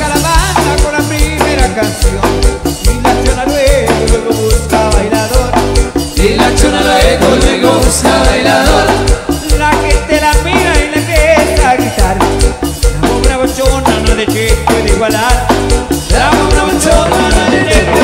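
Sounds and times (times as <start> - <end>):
live band playing latin dance music: 0.0 - 18.0
percussion: 0.0 - 18.0
steady bass beat: 0.0 - 18.0.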